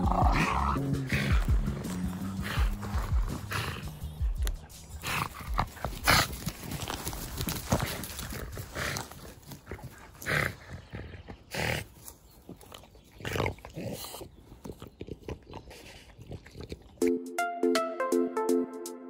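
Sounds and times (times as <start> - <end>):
dogs making rough noises: 0.0 - 17.0.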